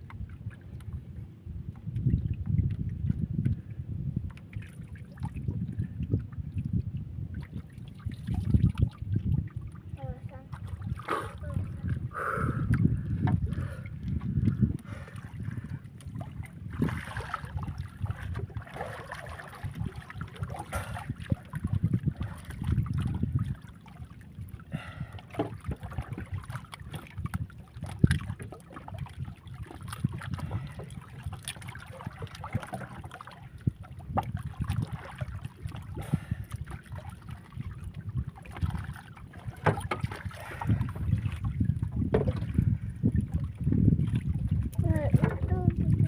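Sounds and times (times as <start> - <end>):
sloshing water: 0.0 - 46.0
wind buffeting microphone: 0.0 - 46.0.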